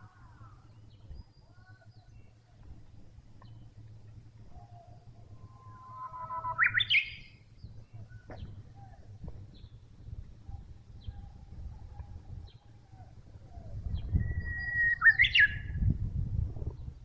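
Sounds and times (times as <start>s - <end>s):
bush warbler singing: 0.0s - 17.0s
low rumbling noise: 0.0s - 17.0s.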